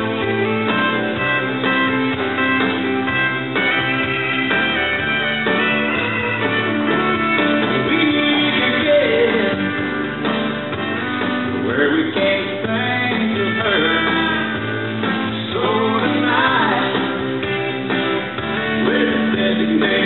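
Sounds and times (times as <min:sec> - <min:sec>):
country music with guitar: 0:00.0 - 0:20.0.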